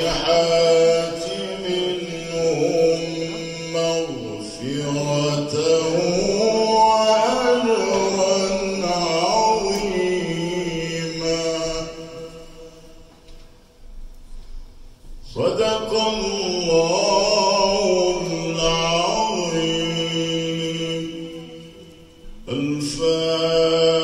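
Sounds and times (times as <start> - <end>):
man reciting melodically: 0.0 - 13.3, 15.1 - 24.0.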